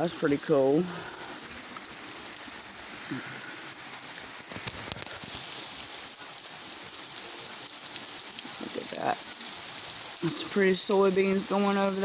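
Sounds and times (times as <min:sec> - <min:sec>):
heavy rain on lawn and trees: 0:00.0 - 0:12.0.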